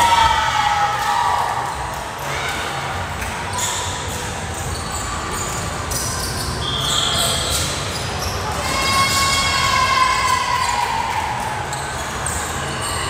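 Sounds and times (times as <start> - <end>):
voices in echoing gym: 0.0 - 13.0
volleyball court noise: 0.0 - 13.0.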